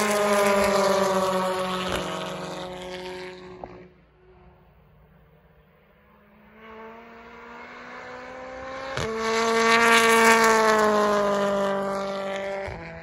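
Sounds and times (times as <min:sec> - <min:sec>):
race car engine passing: 0:00.0 - 0:13.0.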